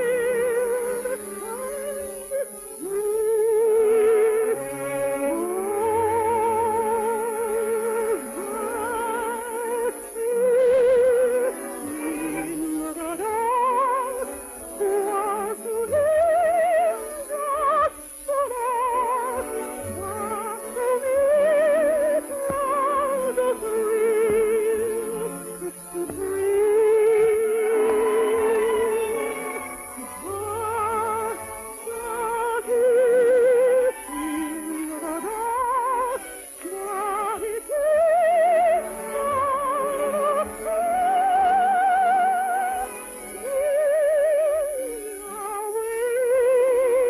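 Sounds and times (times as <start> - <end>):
orchestral accompaniment: 0.0 - 47.0
soprano singing with vibrato: 0.0 - 47.0.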